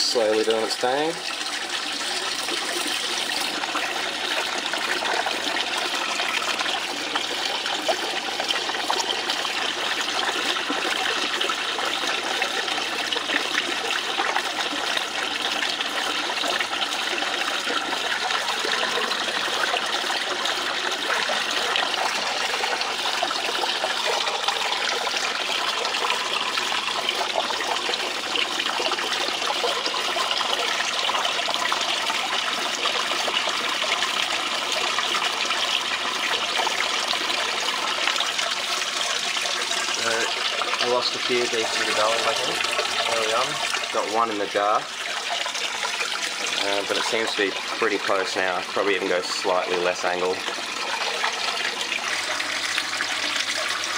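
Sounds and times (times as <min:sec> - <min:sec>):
water trickling: 0:00.0 - 0:53.9.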